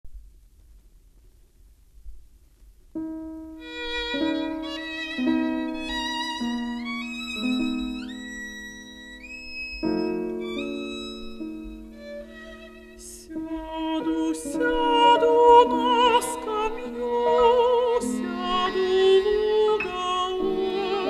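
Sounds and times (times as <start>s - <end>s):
vinyl record surface noise: 0.0s - 17.3s
slow violin lullaby: 3.4s - 21.0s.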